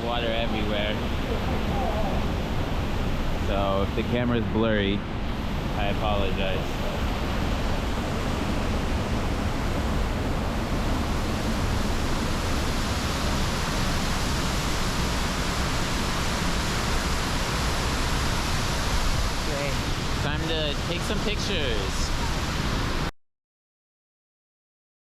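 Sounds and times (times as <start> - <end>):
waterfall rushing: 0.0 - 23.1.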